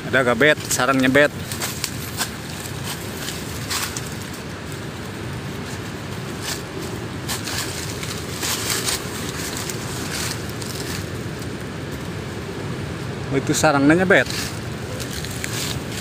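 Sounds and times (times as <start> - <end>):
dry leaves and branches rustling: 0.0 - 16.0
steady rushing noise: 0.0 - 16.0.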